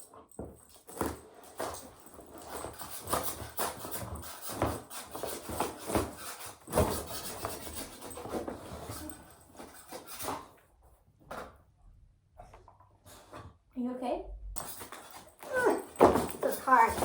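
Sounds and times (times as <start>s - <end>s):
carpet scraping on floor: 0.3s - 11.5s, 14.6s - 17.0s.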